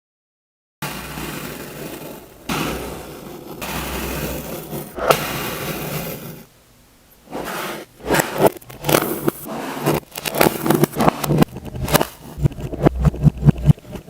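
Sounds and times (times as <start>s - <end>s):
tool scraping sand: 0.8s - 6.5s, 7.3s - 14.0s.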